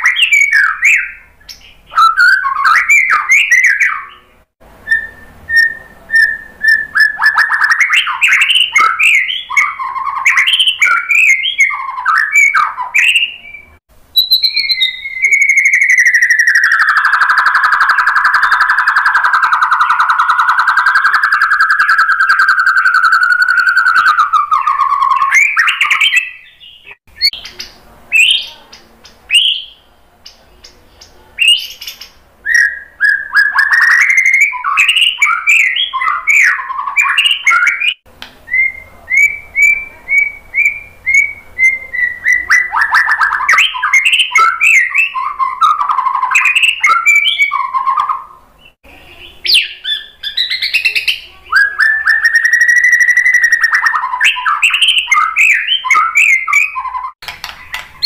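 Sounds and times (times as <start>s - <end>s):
bird singing whistled phrases: 0.0s - 57.8s.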